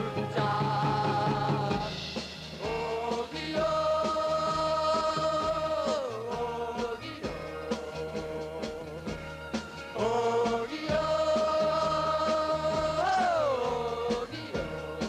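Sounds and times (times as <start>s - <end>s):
male vocal group singing: 0.0s - 2.0s, 2.6s - 9.2s, 9.8s - 15.0s
live band with drums: 0.0s - 15.0s.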